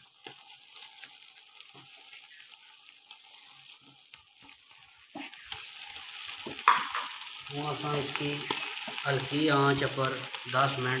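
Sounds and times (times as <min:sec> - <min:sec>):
pot on gas stove hissing: 0:00.0 - 0:11.0.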